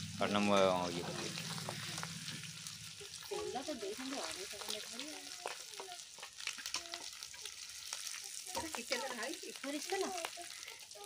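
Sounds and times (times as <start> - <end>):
prawns sizzling in hot oil: 0.0 - 11.0.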